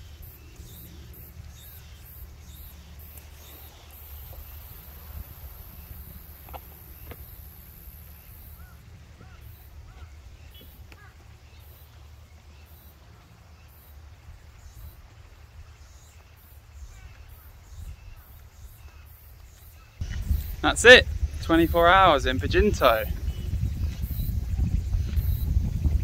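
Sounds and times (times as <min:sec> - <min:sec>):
bird calls: 0:00.0 - 0:26.0.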